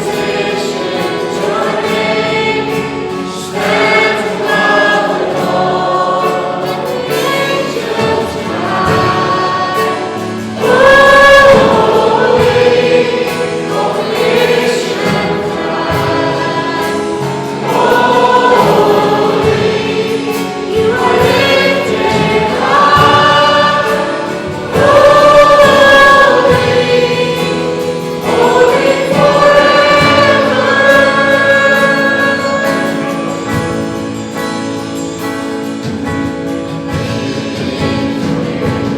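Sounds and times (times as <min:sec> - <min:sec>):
group singing gospel song: 0:00.0 - 0:38.9.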